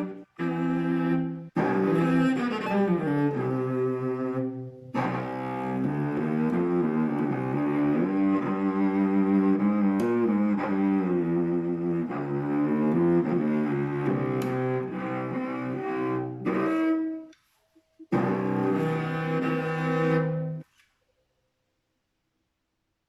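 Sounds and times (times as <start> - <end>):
cello bowed sustained notes: 0.0 - 17.4, 18.1 - 20.6.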